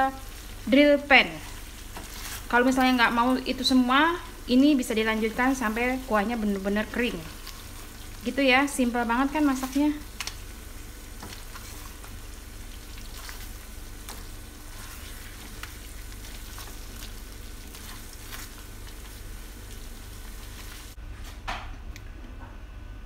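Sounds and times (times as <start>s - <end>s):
sauce sizzling in a wok: 0.0s - 21.0s.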